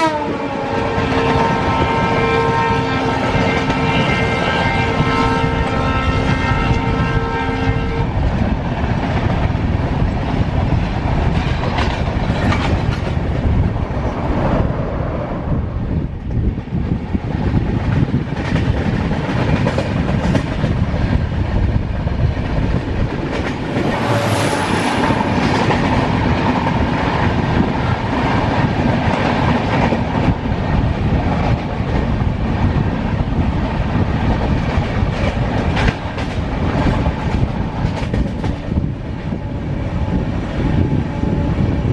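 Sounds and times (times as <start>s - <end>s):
clickety-clack of rail joints: 0.0s - 5.4s, 7.9s - 14.8s, 16.0s - 41.5s
train wheels rumbling on track: 0.0s - 41.9s.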